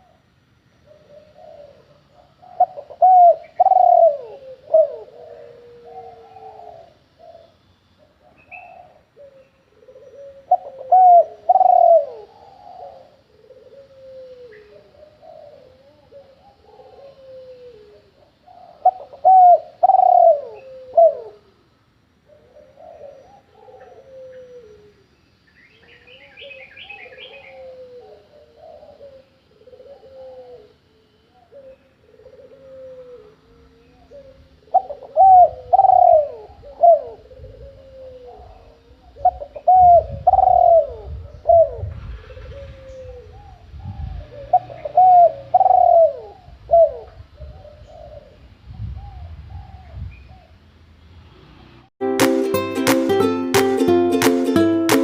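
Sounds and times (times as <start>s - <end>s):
pigeons cooing: 0.0s - 0.2s, 0.8s - 21.6s, 22.2s - 25.1s, 25.9s - 50.6s.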